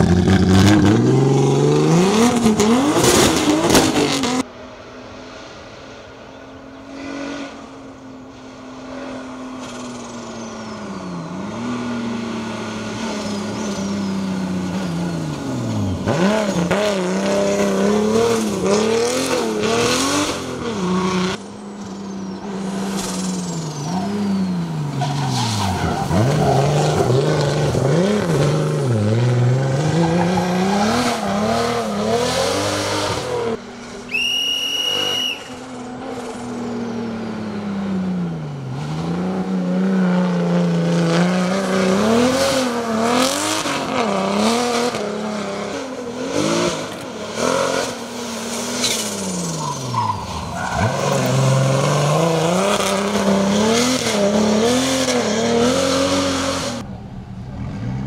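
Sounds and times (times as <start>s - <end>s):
race car engine revving: 0.0s - 4.5s, 8.7s - 58.0s.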